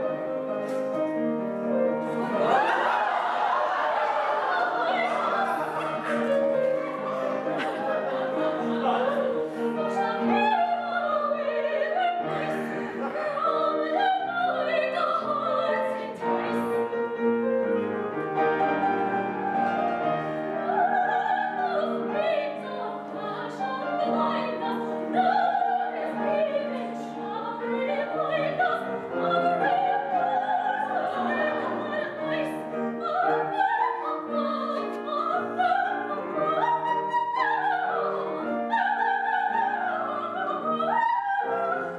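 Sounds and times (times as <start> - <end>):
piano: 0.0 - 41.9
woman singing opera: 2.3 - 17.0, 19.6 - 41.9.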